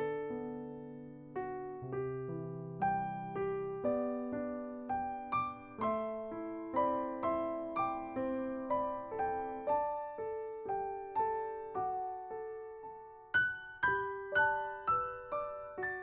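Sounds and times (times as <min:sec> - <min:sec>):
gentle electric piano music: 0:00.0 - 0:16.0.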